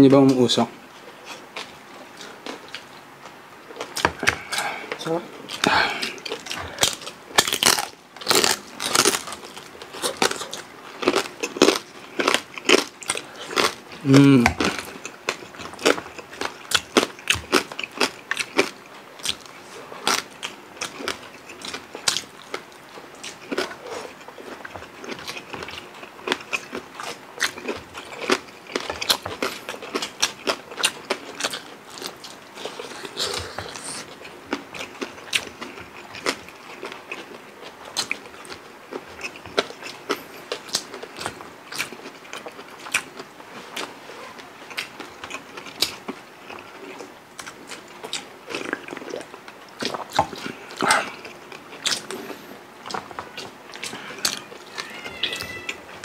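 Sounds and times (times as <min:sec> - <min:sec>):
chewing and crunching crispy food: 0:00.2 - 0:56.0.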